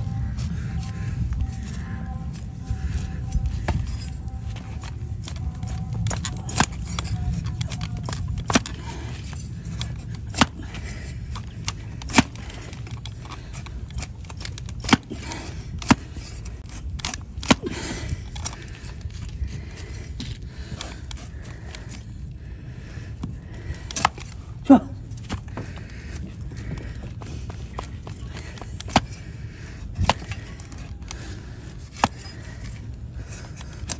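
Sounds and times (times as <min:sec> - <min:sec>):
low steady rumble: 0:00.0 - 0:33.9
blade scraping hoof with cracks: 0:01.6 - 0:22.2, 0:23.6 - 0:24.4, 0:25.1 - 0:33.9.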